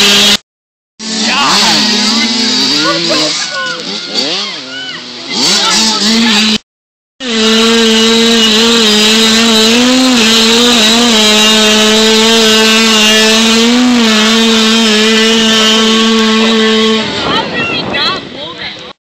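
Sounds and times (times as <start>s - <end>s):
dirt bike engine at high revs: 0.0s - 0.4s, 1.0s - 6.6s, 7.2s - 18.5s.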